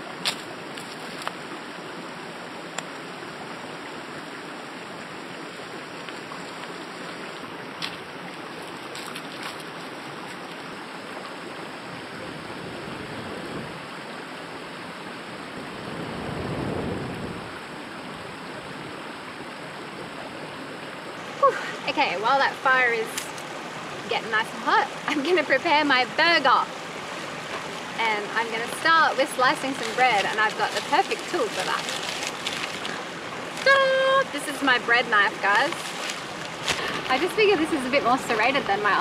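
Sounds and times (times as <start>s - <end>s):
stream water flowing: 0.0s - 39.0s.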